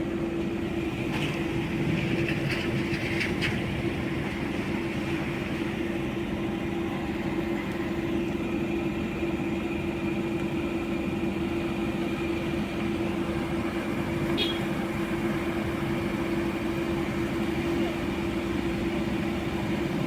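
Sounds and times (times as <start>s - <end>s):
vehicle running with low hum: 0.0s - 20.0s.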